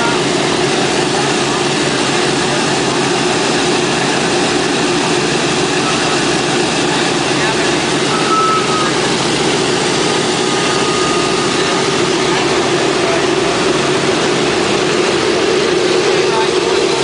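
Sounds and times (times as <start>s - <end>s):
radial aircraft engines running: 0.0s - 17.0s.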